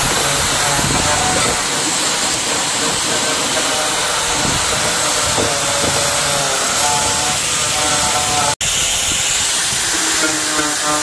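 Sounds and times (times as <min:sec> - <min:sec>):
loud hissing: 0:00.0 - 0:11.0.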